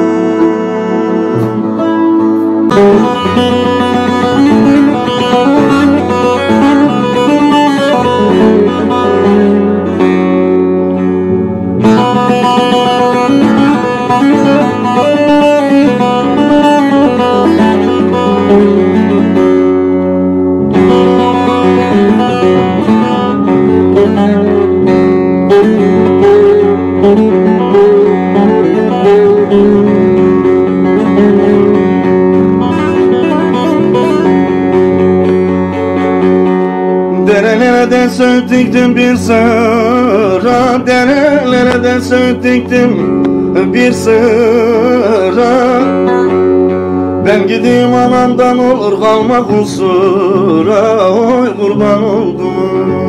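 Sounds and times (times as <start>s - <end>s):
long-necked lute folk melody: 0.0s - 53.0s.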